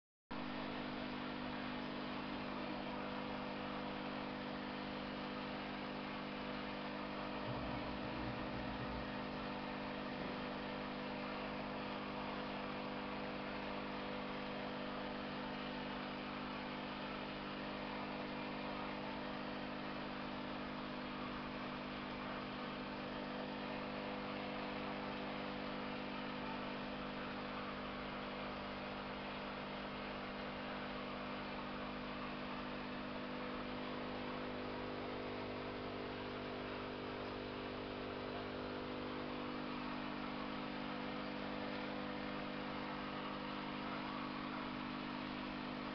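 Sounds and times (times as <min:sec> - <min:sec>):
electric motor hum: 0:00.5 - 0:45.9
water hissing through tank: 0:01.3 - 0:45.9.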